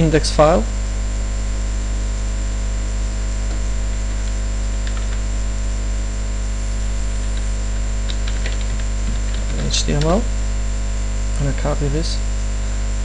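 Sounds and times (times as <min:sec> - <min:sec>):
electrical mains hum: 0:00.0 - 0:13.0
static hiss: 0:00.0 - 0:13.0.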